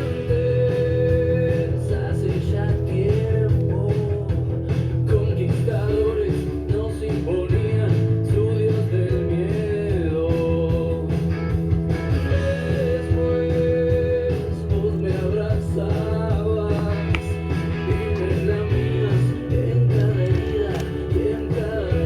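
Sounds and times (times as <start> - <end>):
rock music with guitar and vocals: 0.0 - 22.0.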